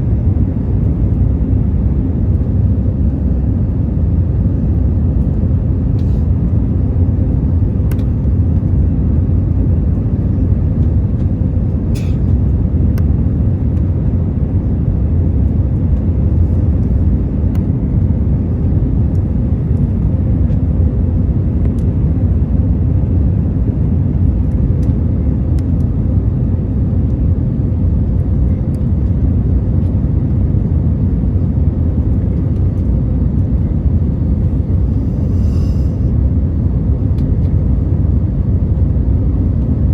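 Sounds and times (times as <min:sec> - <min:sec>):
airliner cabin engine rumble: 0:00.0 - 0:39.9
faint steady hum: 0:00.0 - 0:39.9.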